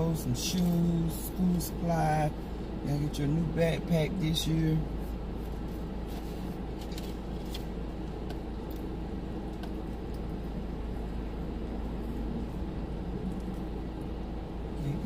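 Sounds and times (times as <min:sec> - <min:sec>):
car engine and air conditioning hum: 0:00.0 - 0:15.0.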